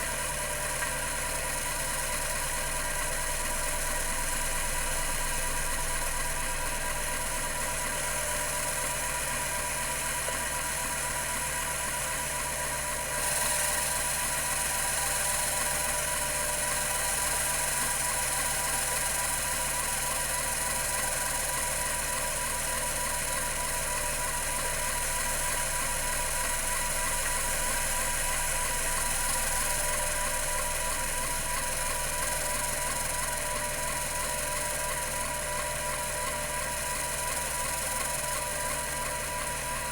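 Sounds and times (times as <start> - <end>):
hard drive spindle whine: 0.0 - 39.9.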